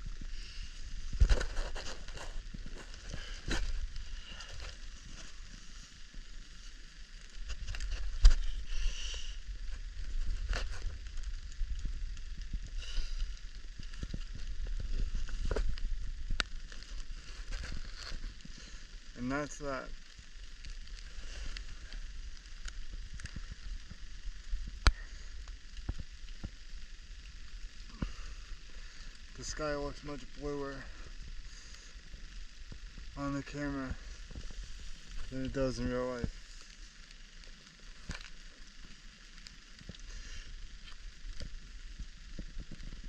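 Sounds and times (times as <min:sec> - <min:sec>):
steady rain hiss: 0:00.0 - 0:43.0
raindrops ticking close by: 0:01.9 - 0:43.0.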